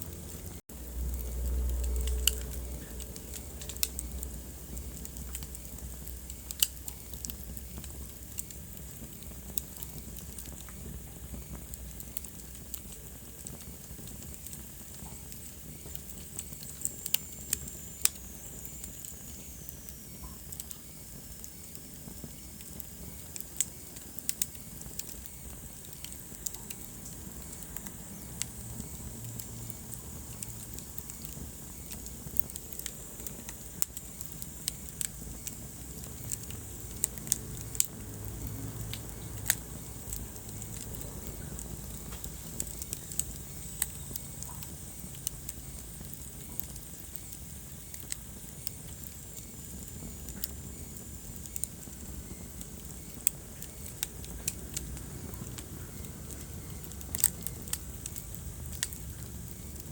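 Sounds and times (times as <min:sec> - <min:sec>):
fire crackles and pops: 0:00.0 - 0:59.9
fire flames rumbling: 0:00.0 - 0:59.9.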